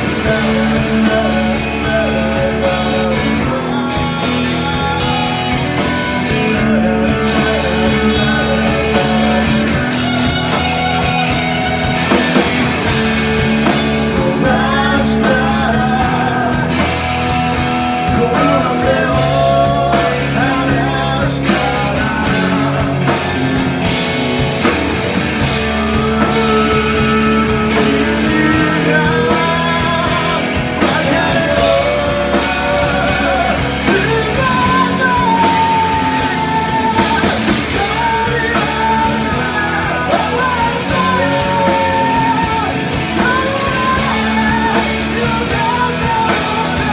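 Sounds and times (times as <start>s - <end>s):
male singer: 0.0s - 12.2s, 13.6s - 24.2s, 25.4s - 46.9s
rock band playing: 0.0s - 46.9s.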